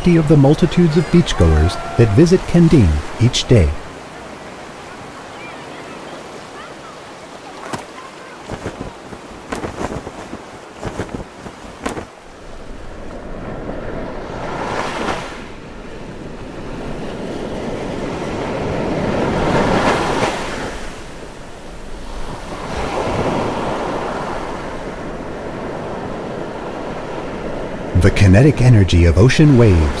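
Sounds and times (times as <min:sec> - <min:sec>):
waves washing up beach: 0:00.0 - 0:28.0.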